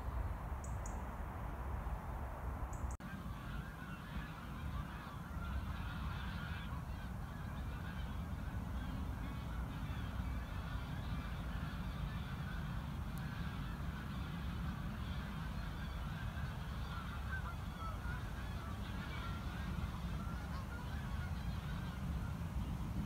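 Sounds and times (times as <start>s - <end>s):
geese honking: 3.0s - 23.0s.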